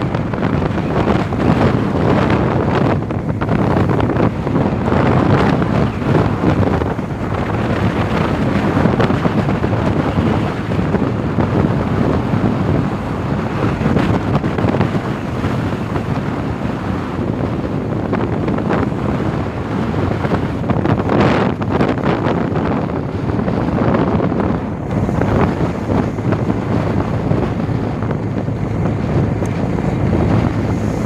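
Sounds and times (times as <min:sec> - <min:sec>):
rushing water: 0:00.0 - 0:31.0
wind buffeting microphone: 0:00.0 - 0:31.0.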